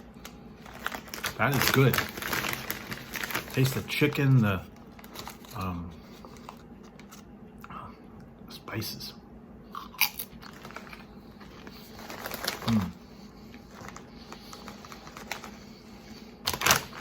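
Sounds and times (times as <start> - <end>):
person chewing potato chips: 0.1 - 7.2, 9.7 - 17.0.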